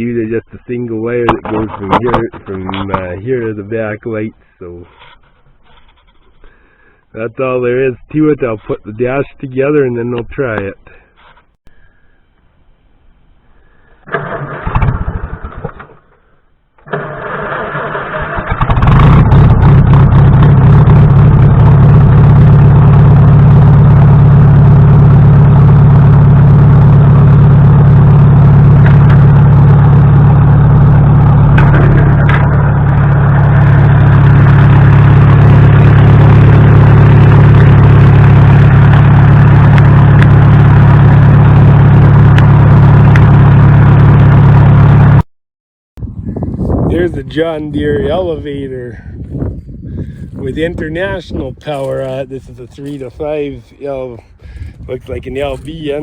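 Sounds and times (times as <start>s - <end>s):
tractor engine starting and running: 0.0s - 45.2s, 46.0s - 56.0s.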